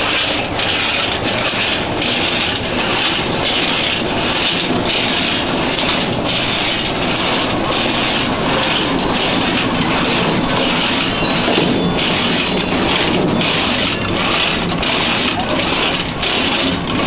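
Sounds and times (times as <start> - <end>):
cashew cutter machine clattering: 0.0 - 17.0.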